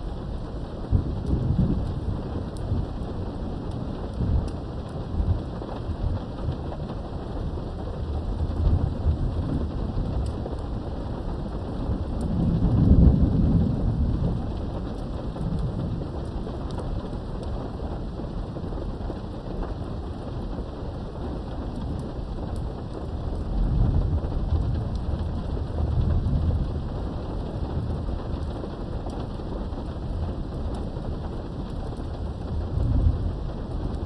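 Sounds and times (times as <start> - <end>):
low rolling thunder: 0.0 - 34.0
rain behind a window: 0.0 - 34.0.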